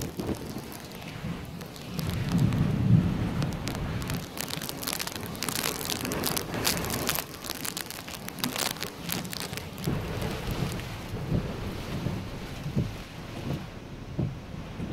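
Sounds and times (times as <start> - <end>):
heavy rain: 0.0 - 14.0
raindrops ticking on microphone: 0.0 - 14.9
wind buffeting microphone: 0.0 - 14.9.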